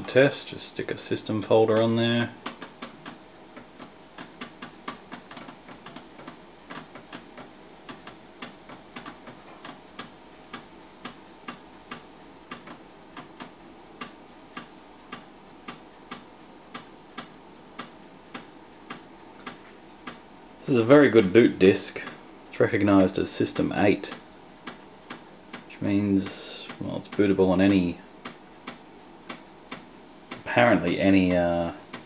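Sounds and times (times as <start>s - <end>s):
faint machine hum: 0.0s - 32.0s
hard drive clicking: 1.3s - 20.3s, 21.1s - 32.0s.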